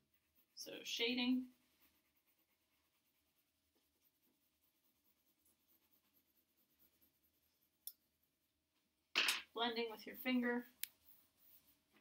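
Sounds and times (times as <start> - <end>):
pencil scratching on paper: 0.0 - 8.5, 9.8 - 12.0.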